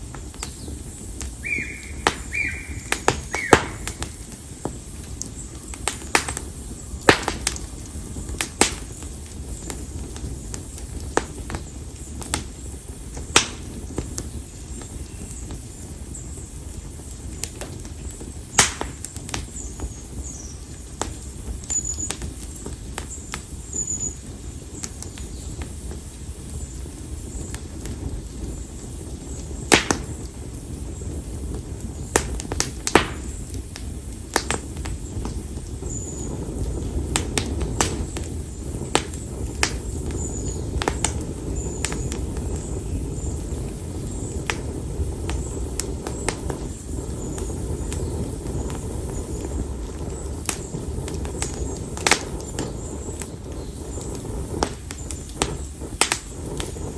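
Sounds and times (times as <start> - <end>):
firewood crackling and popping: 0.0 - 56.9
low rush of flame: 0.0 - 56.9.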